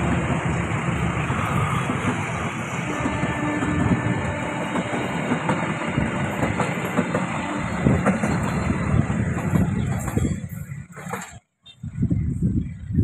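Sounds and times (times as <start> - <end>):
wheels clacking over rail joints: 0.0 - 11.5
train wheels rumbling on rails: 0.0 - 13.0.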